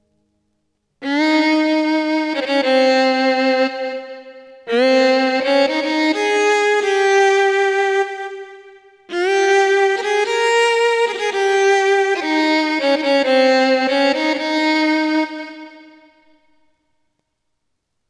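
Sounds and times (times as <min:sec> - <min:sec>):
keyboard violin-like melody: 0:01.0 - 0:16.6.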